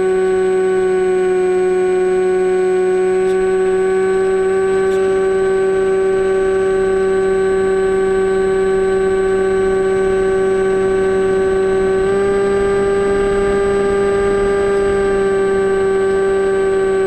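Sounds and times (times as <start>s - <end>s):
electric motor and propeller whine: 0.0s - 17.0s.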